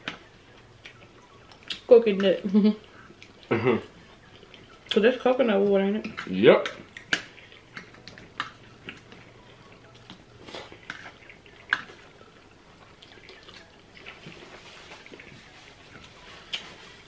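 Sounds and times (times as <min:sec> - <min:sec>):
wet chewing and mouth clicks: 0:00.0 - 0:17.0.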